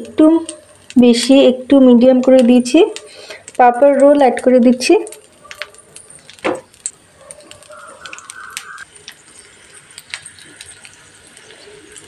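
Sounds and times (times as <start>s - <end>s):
hot oil crackling in a pan: 0.0s - 12.0s.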